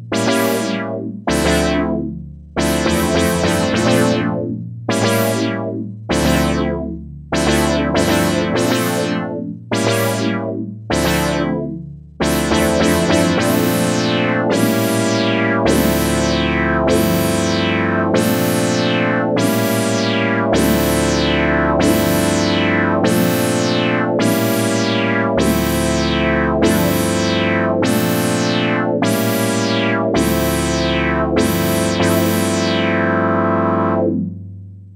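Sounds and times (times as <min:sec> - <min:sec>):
synthesizer chords with filter sweeps: 0:00.0 - 0:34.5.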